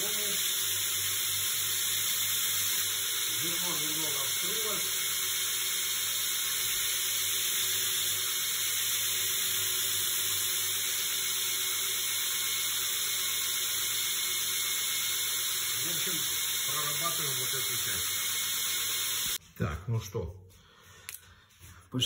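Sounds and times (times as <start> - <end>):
belt grinder grinding steel: 0.0 - 19.4.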